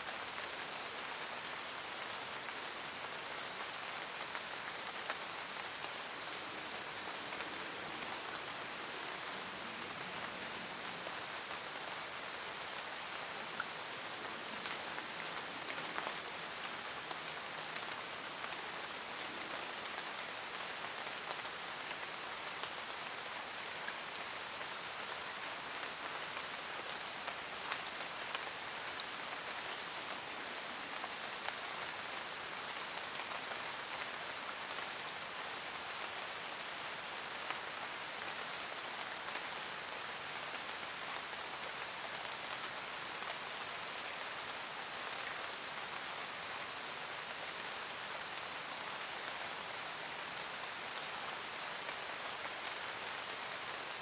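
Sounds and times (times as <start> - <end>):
rain hissing in forest: 0.0 - 54.0
raindrops ticking on leaves: 0.1 - 54.0.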